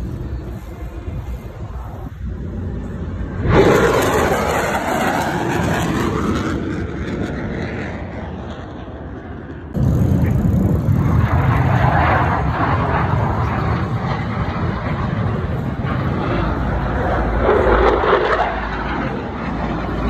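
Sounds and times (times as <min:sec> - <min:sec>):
heavy low rumble: 0:00.0 - 0:06.4, 0:07.4 - 0:20.0
jet engine noise: 0:00.0 - 0:20.0.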